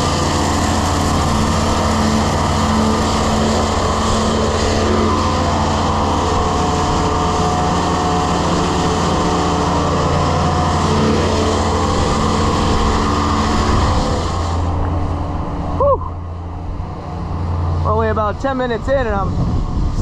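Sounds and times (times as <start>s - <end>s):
rush of air: 0.0s - 17.9s, 18.7s - 20.0s
grain vacuum machine drone: 0.0s - 20.0s.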